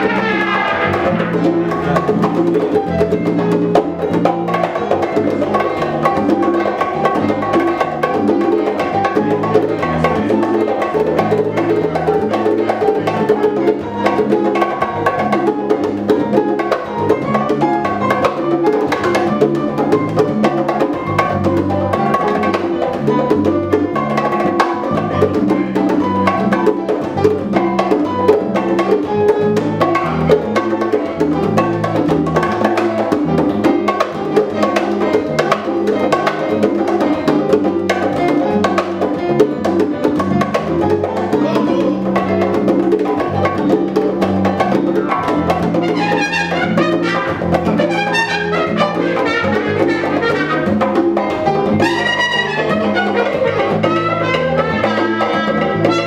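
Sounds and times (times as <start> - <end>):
congas and bongos: 0.0 - 56.0
salsa band playing: 0.0 - 56.0.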